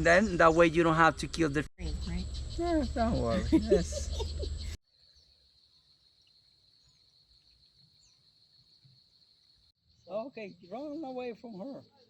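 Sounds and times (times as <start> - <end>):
faint bird chirps: 1.8 - 12.0
high-pitched insect trill: 1.8 - 12.0.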